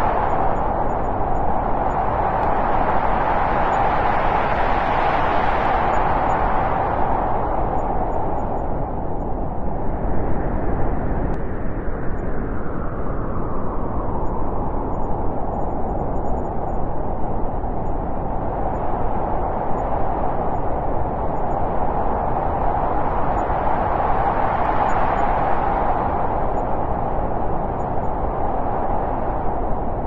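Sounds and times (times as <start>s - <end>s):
wind blowing: 0.0s - 30.0s.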